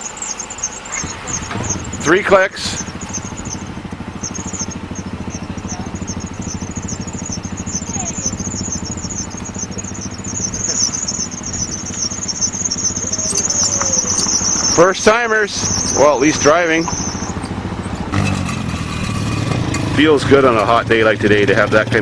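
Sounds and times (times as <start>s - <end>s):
insects chirping: 0.0s - 21.7s
vehicle engine driving off: 0.0s - 22.0s.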